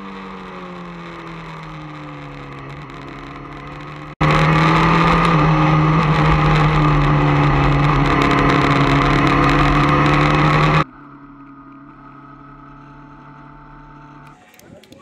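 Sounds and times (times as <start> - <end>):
motorcycle engine high revs: 0.0 - 15.0.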